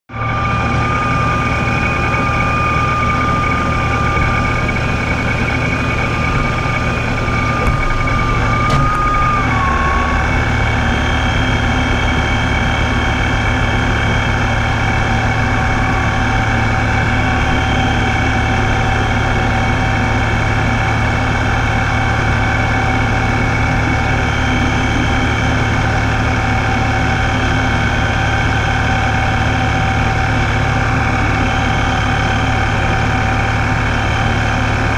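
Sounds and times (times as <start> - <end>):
high-pitched supercharger whine: 0.1 - 34.9
supercharged engine idling: 0.2 - 34.9.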